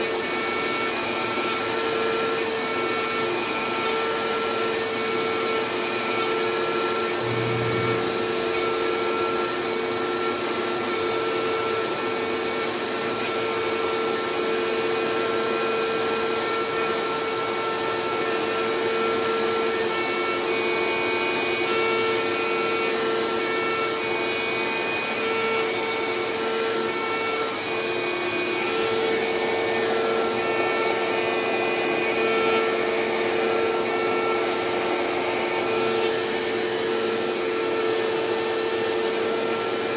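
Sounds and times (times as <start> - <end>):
dust vacuum running: 0.0 - 39.9
router spindle whine: 0.0 - 39.9.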